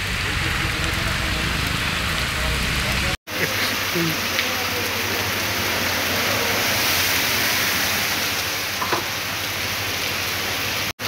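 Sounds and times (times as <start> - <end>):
heavy rain pouring: 0.0 - 11.0
running water: 0.0 - 11.0.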